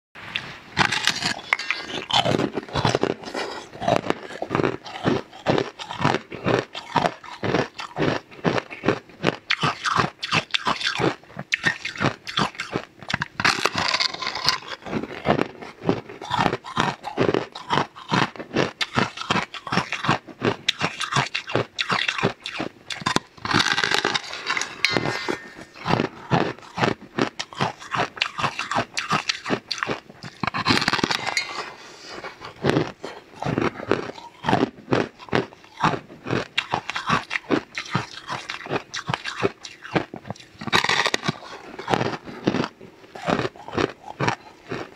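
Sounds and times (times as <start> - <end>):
person chewing crisp cracker: 0.2 - 44.9.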